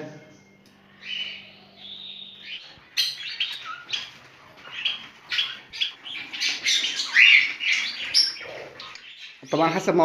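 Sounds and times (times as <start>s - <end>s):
budgerigars chirping: 1.0s - 9.9s.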